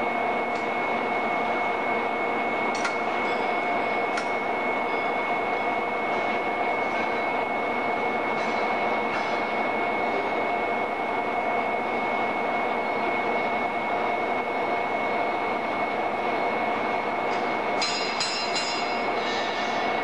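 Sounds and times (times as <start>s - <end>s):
machinery drone with high whine: 0.0s - 20.0s.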